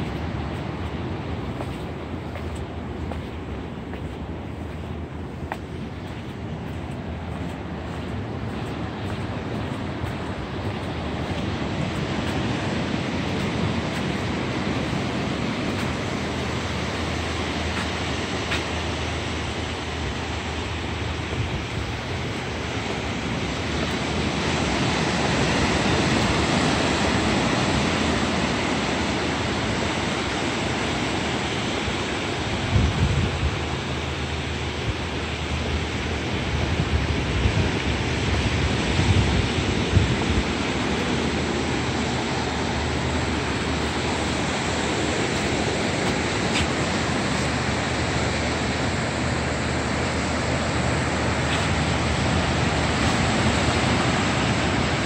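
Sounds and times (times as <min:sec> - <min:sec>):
ocean surf breaking: 0:00.0 - 0:55.0
wind gusts on microphone: 0:00.0 - 0:55.0.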